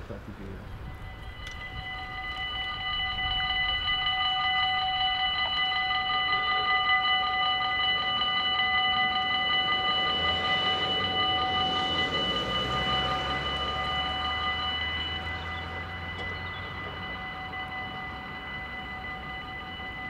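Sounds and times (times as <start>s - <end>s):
approaching train rumble: 0.0s - 20.0s
level crossing bells dinging: 0.8s - 20.0s.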